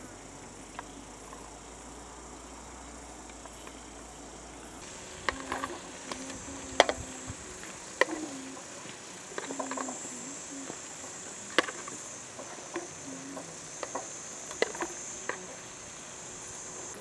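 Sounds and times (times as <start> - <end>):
high-pitched hiss of hot oil: 3.3 - 17.0.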